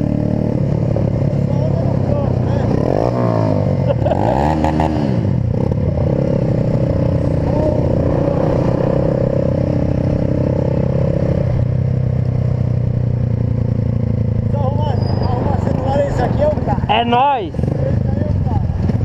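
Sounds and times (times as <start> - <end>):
small motorcycle engines revving: 0.0 - 19.0.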